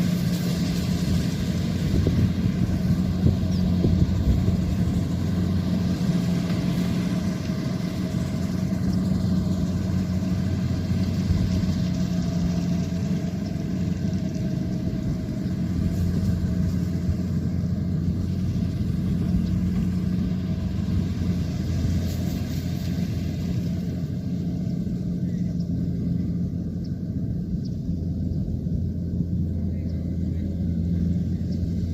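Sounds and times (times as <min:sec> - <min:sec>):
diesel engine humming: 0:00.0 - 0:31.9.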